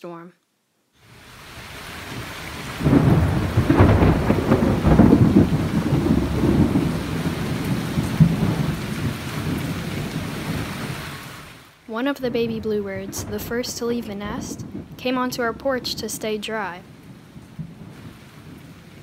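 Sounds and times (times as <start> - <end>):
steady rain: 0.8 - 19.0
thunder rumbling: 1.1 - 11.3, 12.0 - 19.0.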